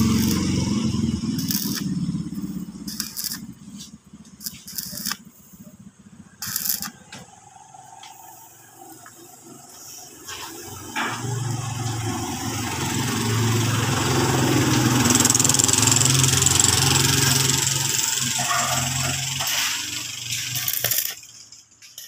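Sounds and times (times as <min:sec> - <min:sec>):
welding arc crackling and hissing: 0:00.0 - 0:22.0.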